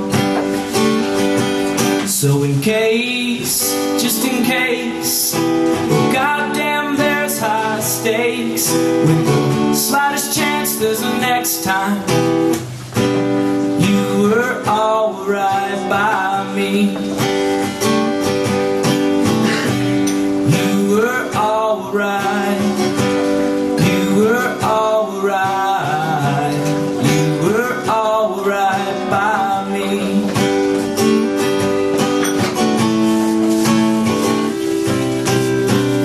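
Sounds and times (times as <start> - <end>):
acoustic guitar strumming: 0.0 - 36.0
sliding guitar notes: 0.0 - 36.0.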